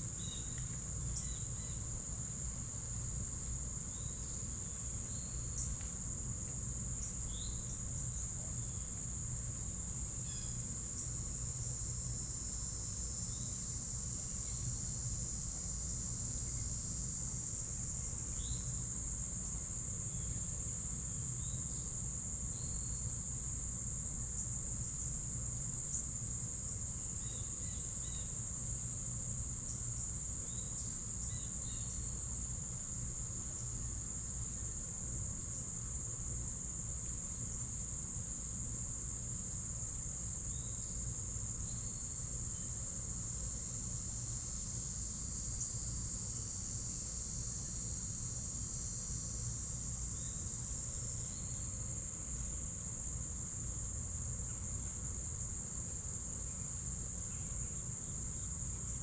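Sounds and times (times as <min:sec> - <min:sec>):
buzzy insect trill: 0:00.0 - 0:59.0
crickets trilling: 0:00.0 - 0:59.0.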